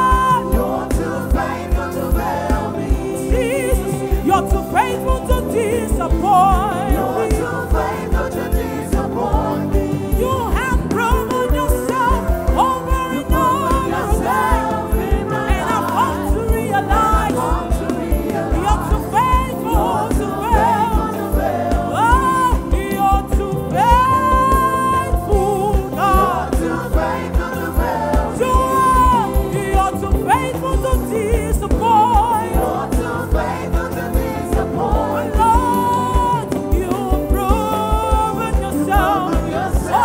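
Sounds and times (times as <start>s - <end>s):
electric bass guitar: 0.0s - 40.0s
singers singing gospel: 0.0s - 40.0s.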